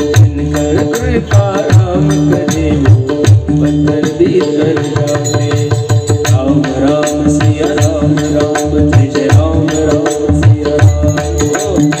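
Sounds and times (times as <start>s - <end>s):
wavering instrumental melody: 0.0s - 12.0s.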